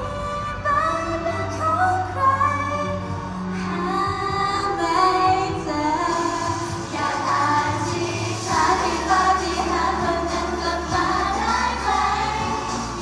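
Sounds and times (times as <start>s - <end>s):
pop song with female vocals: 0.0s - 13.0s.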